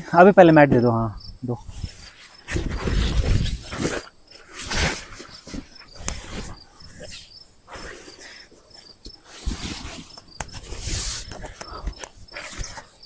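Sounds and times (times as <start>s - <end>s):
insects chirping: 0.0s - 13.0s
rustling and handling of camping gear: 0.0s - 13.0s.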